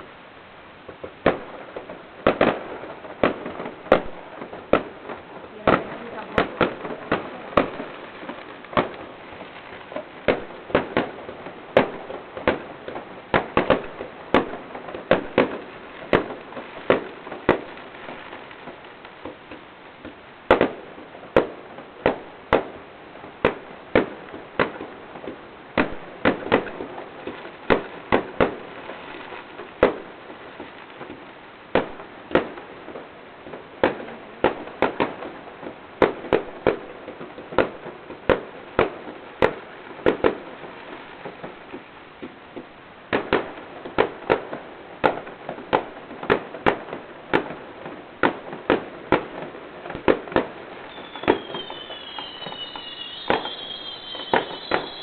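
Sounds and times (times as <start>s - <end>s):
fireworks crackling: 0.0s - 55.0s
fireworks bangs: 0.8s - 55.0s.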